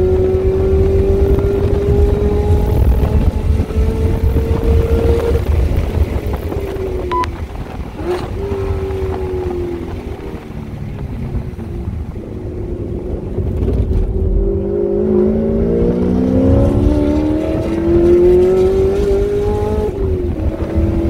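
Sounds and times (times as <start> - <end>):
car engine accelerating hard: 0.0 - 21.0
wind and road noise: 0.0 - 21.0.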